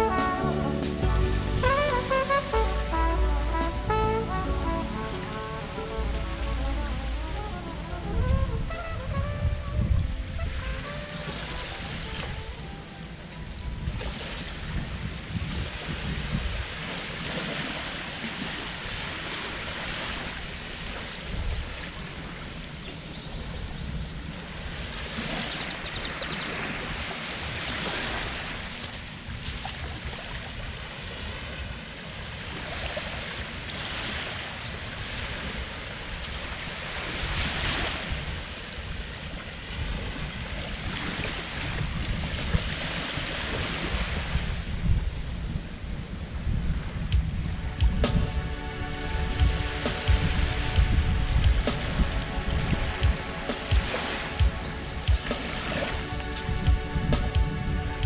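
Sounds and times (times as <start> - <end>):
ocean surf washing onto beach: 0.0 - 22.7, 26.6 - 58.0
wind rumbling on microphone: 1.3 - 58.0.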